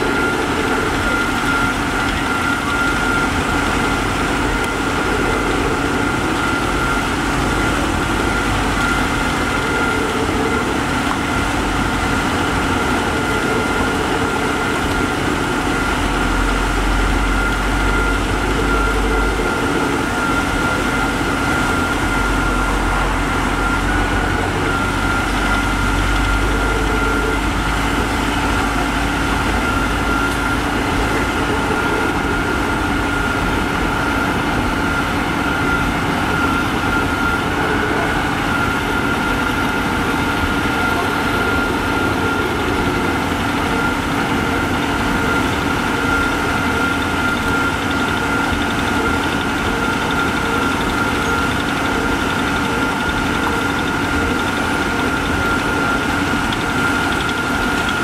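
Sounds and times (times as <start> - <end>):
diesel engines running: 0.0 - 58.0
high whine: 0.0 - 58.0.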